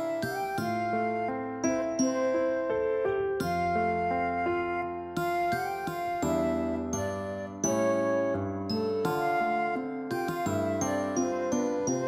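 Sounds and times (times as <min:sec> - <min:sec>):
gentle keyboard melody: 0:00.0 - 0:12.0.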